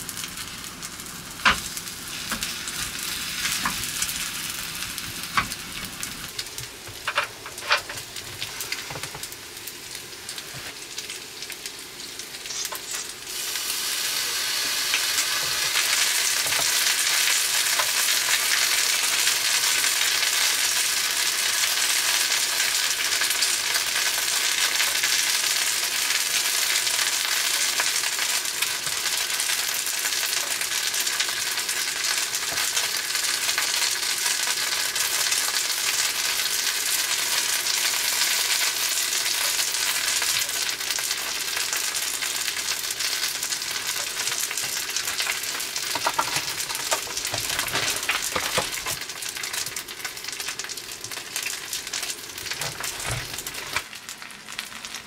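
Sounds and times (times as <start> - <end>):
pancake sizzling on hot plate: 0.0 - 55.0.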